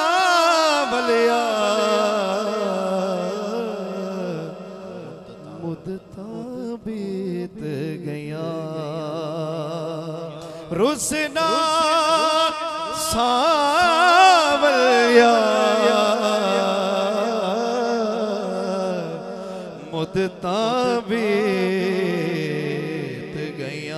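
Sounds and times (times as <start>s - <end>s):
man singing with vibrato: 0.0s - 23.9s.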